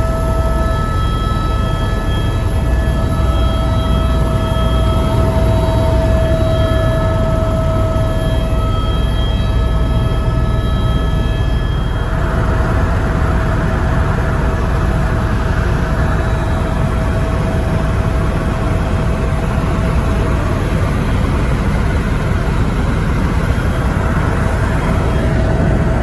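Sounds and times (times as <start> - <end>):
helicopter engine and rotor: 0.0 - 26.0
thin steady whine: 0.0 - 26.0.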